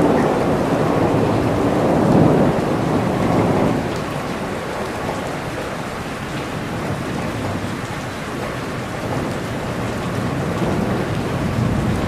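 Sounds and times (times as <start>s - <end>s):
rain on foliage: 0.0s - 12.0s.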